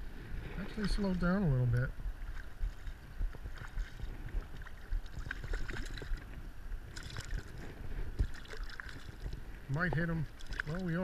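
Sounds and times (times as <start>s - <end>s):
water sloshing and splashing: 0.0s - 11.0s
wind on microphone: 0.0s - 11.0s.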